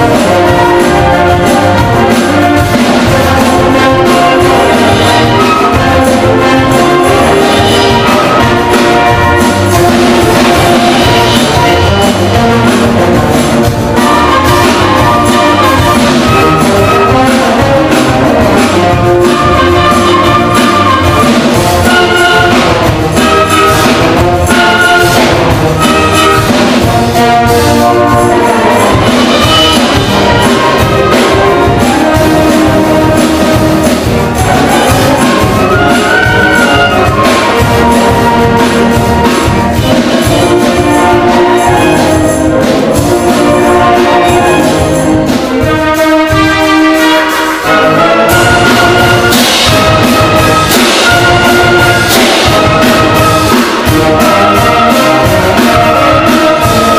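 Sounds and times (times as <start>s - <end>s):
wind band playing: 0.0s - 56.9s.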